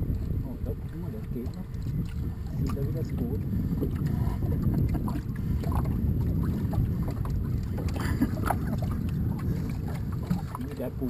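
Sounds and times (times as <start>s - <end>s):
water washing along boat hull: 0.0s - 11.0s
wind on microphone: 0.0s - 11.0s.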